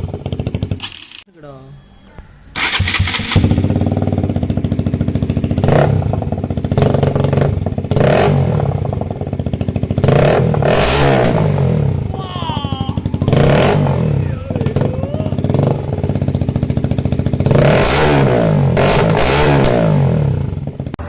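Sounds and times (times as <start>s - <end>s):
motorcycle engine revving: 0.0s - 1.3s, 2.3s - 21.0s.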